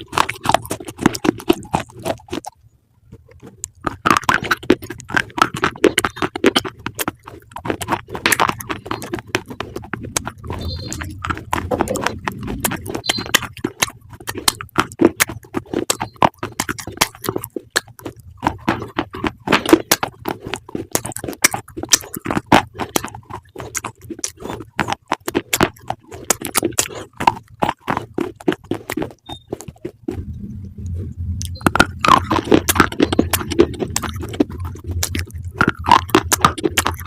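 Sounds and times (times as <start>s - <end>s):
chewing crunchy food: 0.0s - 37.0s.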